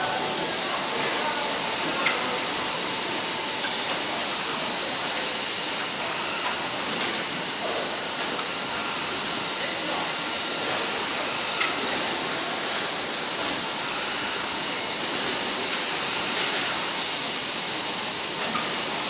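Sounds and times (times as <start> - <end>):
bagging machines and conveyors running: 0.0 - 19.0.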